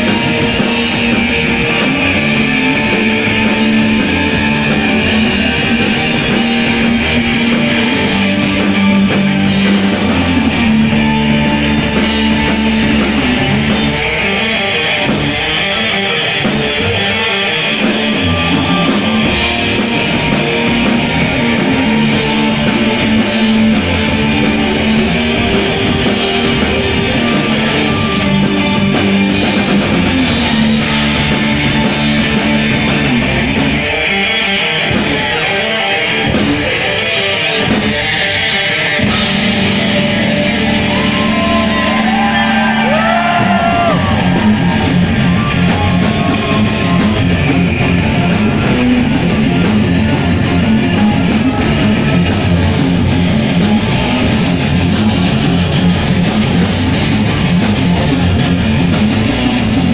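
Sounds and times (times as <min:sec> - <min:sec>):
bass guitar: 0:00.0 - 0:59.9
distorted electric guitars: 0:00.0 - 0:59.9
drums: 0:00.0 - 0:59.9.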